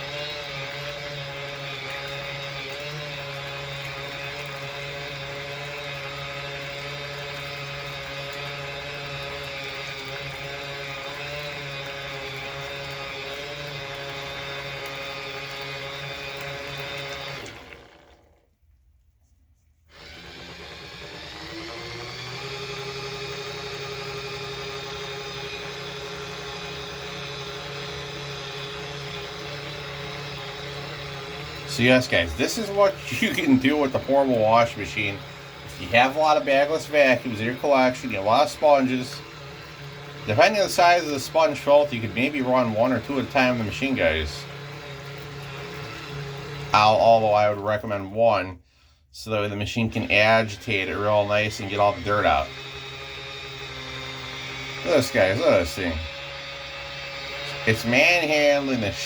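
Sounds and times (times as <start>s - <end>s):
washing machine motor humming: 0.0s - 18.5s, 19.9s - 48.4s, 49.3s - 59.0s.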